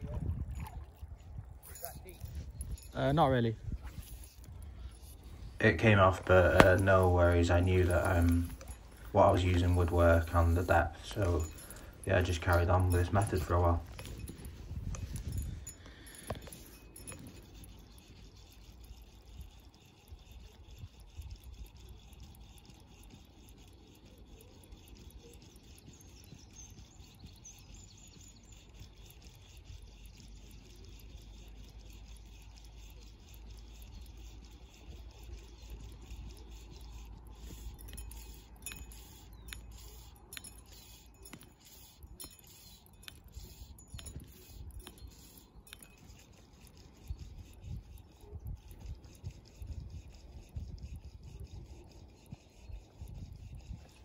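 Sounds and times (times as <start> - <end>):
fly line rubbing through fingers: 0.0 - 54.0
sharp ticks: 1.4 - 54.0.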